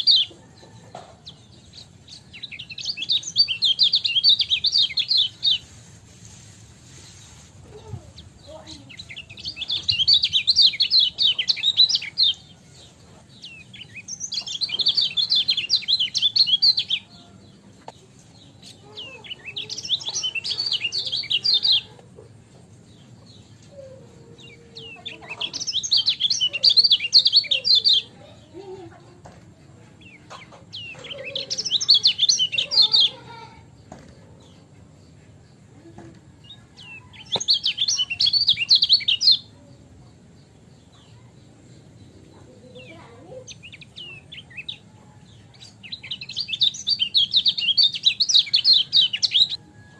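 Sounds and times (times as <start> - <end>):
bird singing chattering notes: 0.0 - 0.4, 1.3 - 5.7, 8.2 - 12.6, 13.3 - 17.1, 17.8 - 29.1, 30.0 - 33.7, 34.4 - 39.5, 40.1 - 49.6.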